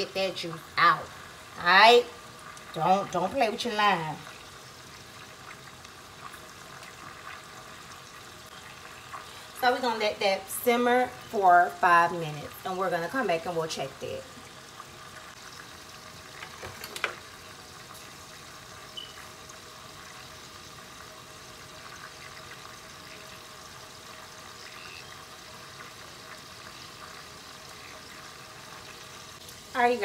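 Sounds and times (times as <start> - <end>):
sauce bubbling and sizzling: 0.0 - 30.0.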